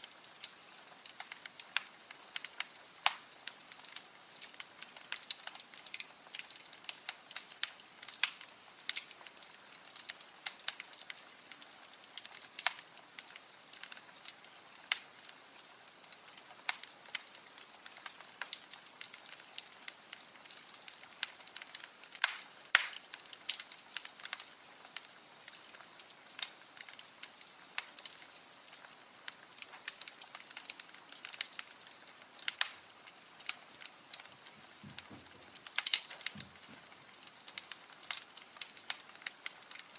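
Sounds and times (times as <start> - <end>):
faint steady hiss: 0.0 - 39.9
fire crackling in fireplace: 0.0 - 39.9.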